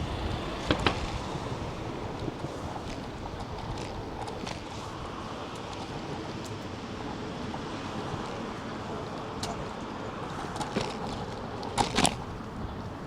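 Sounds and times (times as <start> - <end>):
scooter rolling: 0.0 - 13.0
wind noise: 0.0 - 13.0.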